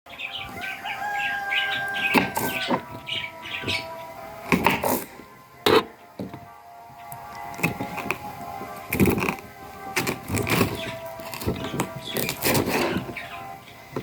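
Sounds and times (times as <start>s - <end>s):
long steady tones: 0.1s - 14.0s
small birds chirping: 0.1s - 14.0s.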